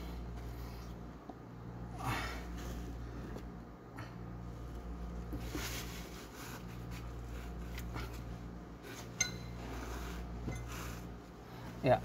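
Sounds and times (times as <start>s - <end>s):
workshop hum: 0.0s - 12.0s.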